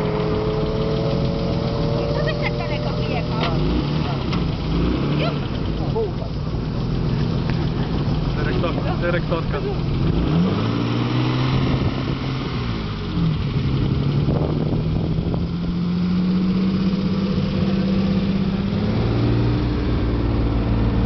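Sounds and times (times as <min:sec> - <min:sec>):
car engine running at raised revs: 0:00.0 - 0:21.0.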